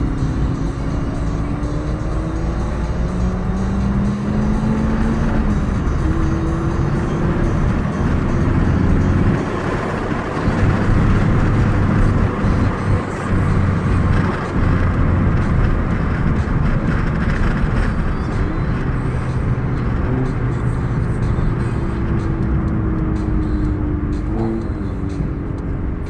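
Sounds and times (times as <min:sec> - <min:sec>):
car engines running: 0:00.0 - 0:26.0.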